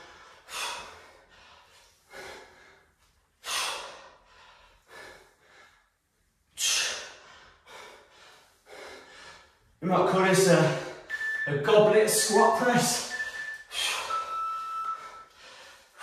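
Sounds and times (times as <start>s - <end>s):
man breathing hard: 0.0s - 9.8s, 10.4s - 11.4s, 13.0s - 16.0s.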